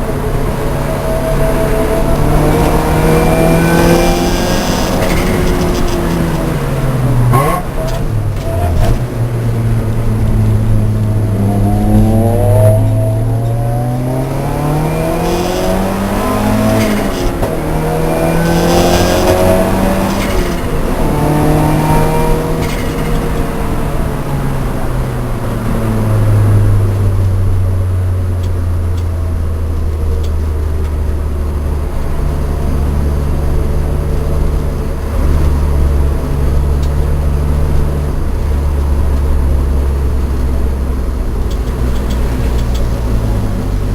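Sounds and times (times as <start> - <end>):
car engine running at low revs: 0.0 - 43.9.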